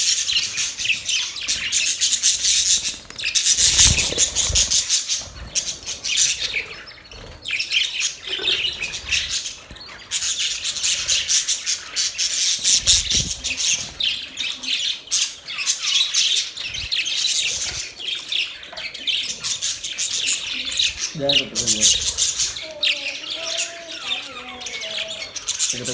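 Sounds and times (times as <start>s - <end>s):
budgerigars chattering: 0.0s - 25.9s.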